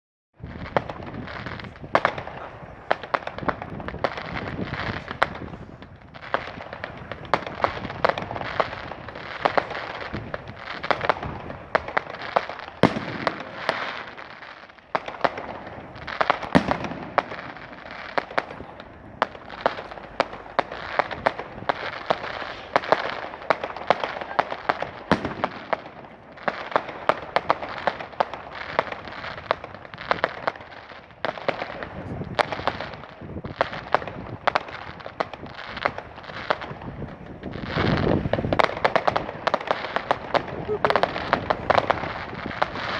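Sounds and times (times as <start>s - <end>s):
deep firework booms: 0.4s - 42.9s
fireworks crackling and popping: 0.4s - 42.9s.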